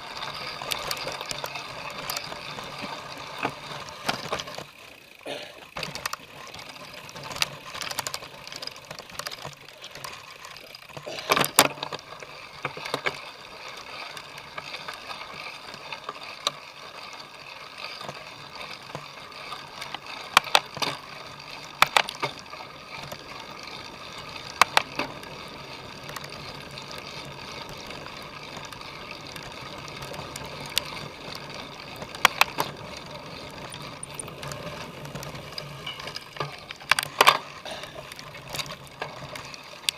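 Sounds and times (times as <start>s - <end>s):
bike clacking and rattling: 0.0s - 39.9s
bike tyres and drivetrain rolling: 0.0s - 39.9s.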